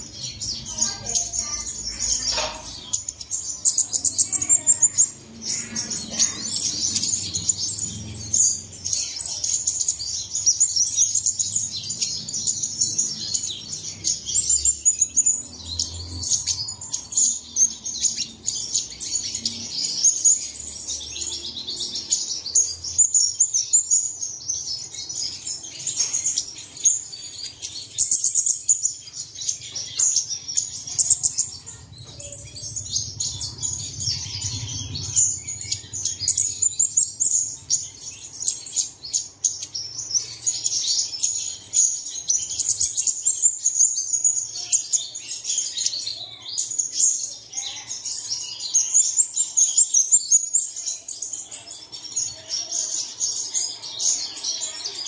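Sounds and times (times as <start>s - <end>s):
bird twittering song: 0.0s - 55.0s.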